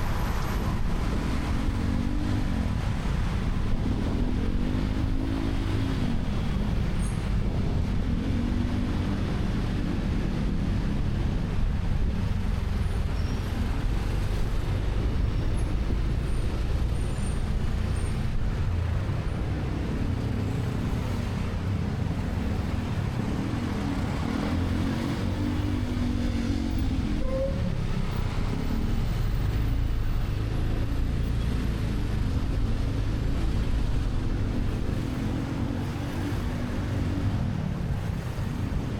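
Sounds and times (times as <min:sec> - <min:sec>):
road and wind noise: 0:00.0 - 0:38.9
surrounding traffic: 0:00.0 - 0:38.9.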